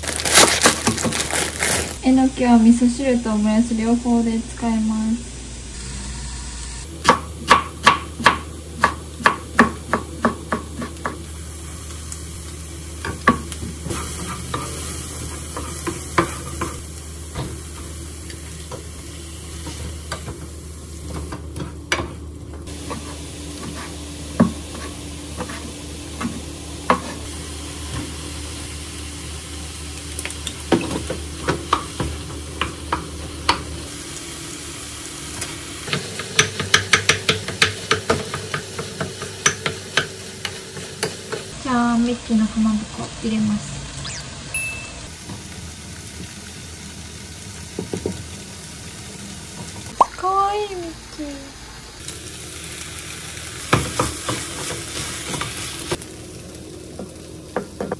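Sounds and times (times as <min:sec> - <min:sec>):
light sizzle: 0:00.0 - 0:07.0, 0:10.6 - 0:57.9.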